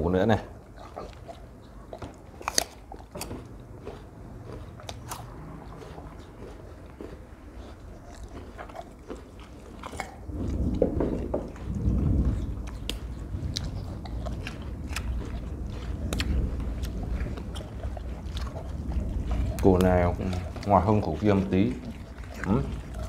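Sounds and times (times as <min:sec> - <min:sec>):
dogs crunching and chewing: 0:00.0 - 0:23.0.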